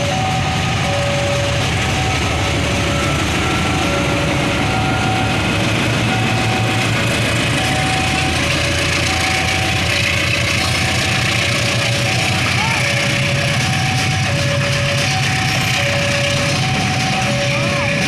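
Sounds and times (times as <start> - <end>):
locomotive passing: 0.0 - 18.0
two-tone warning signal: 0.0 - 18.0.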